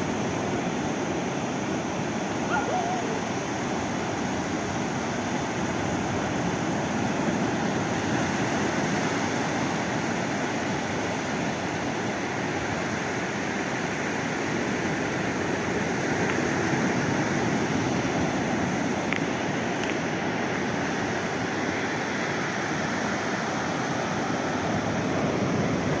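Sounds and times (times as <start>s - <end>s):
ocean waves: 0.0s - 26.0s.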